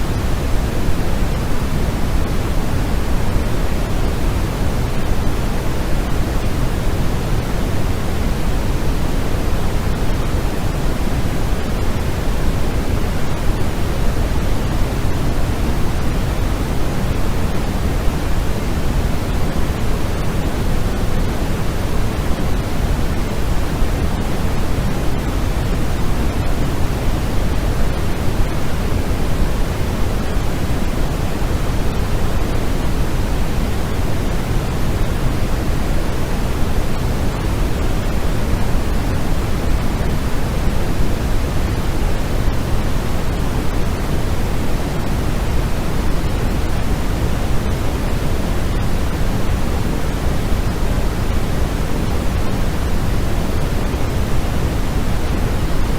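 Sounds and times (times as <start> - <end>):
deep white noise: 0.0 - 55.9.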